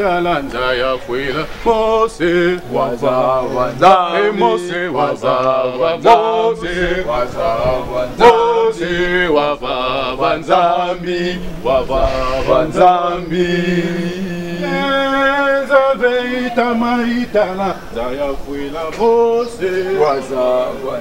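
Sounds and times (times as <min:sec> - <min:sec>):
man singing a chant: 0:00.0 - 0:21.0.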